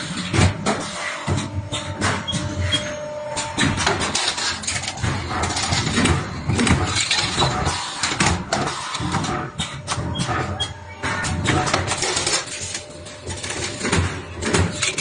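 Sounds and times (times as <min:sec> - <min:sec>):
bending machine mechanical rumble: 0:00.0 - 0:15.0.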